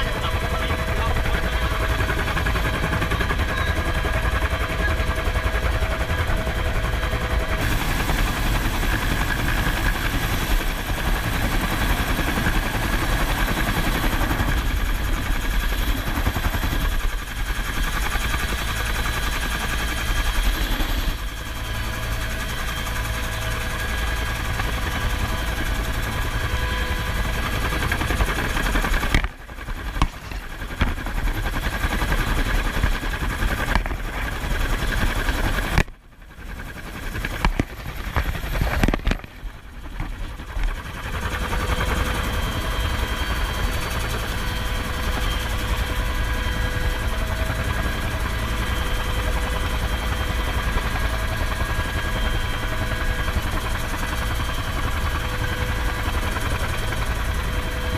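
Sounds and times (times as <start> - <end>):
helicopter rotor chop: 0.0 - 57.9
turbine whine: 0.0 - 57.9.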